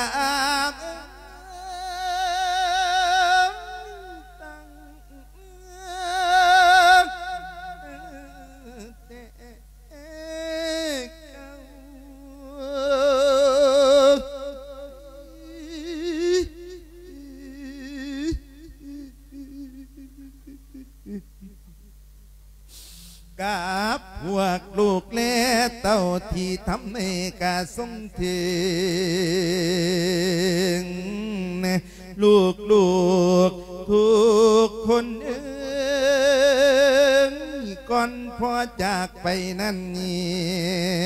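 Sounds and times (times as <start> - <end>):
monk chanting into microphone: 0.0 - 21.2, 22.9 - 41.0.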